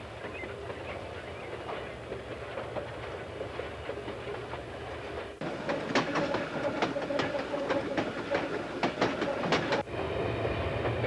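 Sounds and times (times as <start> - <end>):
wheels clicking over rail joints: 0.0 - 9.9
freight train rumbling: 0.0 - 11.0.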